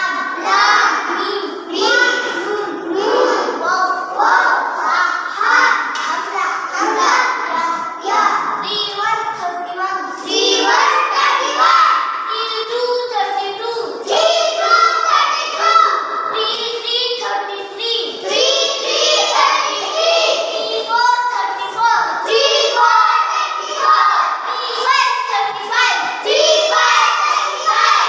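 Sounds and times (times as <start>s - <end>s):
child chanting: 0.0s - 28.0s
children chanting: 0.0s - 28.0s.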